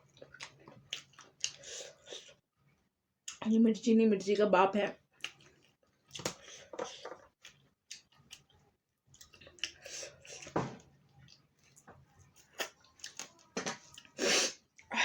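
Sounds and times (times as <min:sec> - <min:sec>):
chewing: 0:00.0 - 0:02.4, 0:05.2 - 0:14.9.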